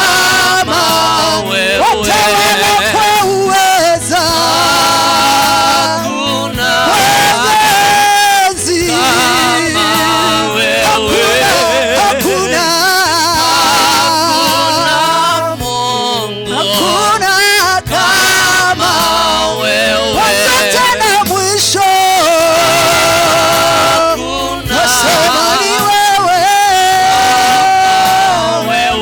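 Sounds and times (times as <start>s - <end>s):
bass line and accompaniment: 0.0s - 29.0s
gospel singing voice: 0.0s - 29.0s.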